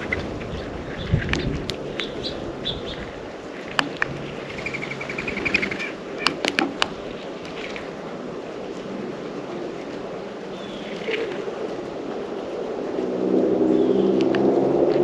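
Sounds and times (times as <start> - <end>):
songbirds chirping: 0.0 - 12.5, 13.6 - 14.5.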